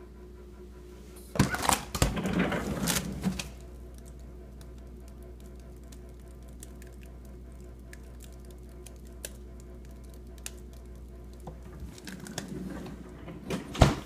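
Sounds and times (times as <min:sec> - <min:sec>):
refrigerator humming: 0:00.0 - 0:14.0.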